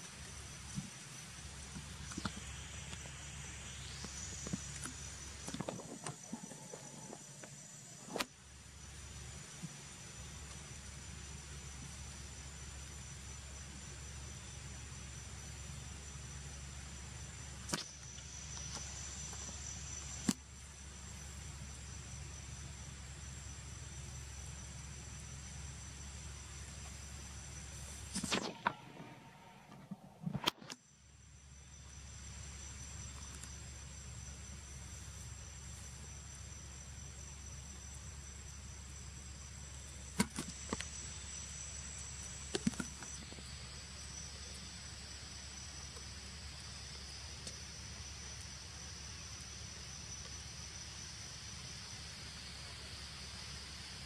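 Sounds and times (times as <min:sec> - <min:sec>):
insects calling in high tones: 0:00.0 - 0:30.0, 0:30.6 - 0:54.0
low steady hum: 0:00.0 - 0:54.0.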